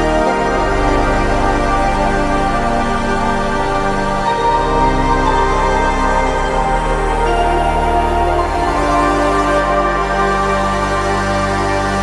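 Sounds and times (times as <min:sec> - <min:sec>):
soft sustained instrumental music: 0:00.0 - 0:12.0.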